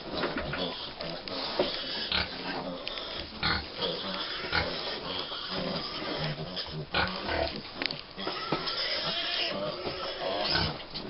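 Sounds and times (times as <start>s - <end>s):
piglets grunting: 0.4s - 7.6s, 8.2s - 10.8s.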